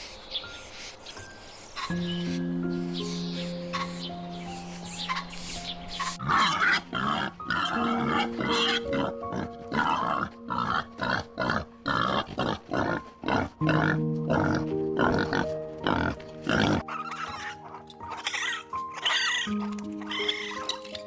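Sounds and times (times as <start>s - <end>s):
soft music with long notes: 0.0s - 21.0s.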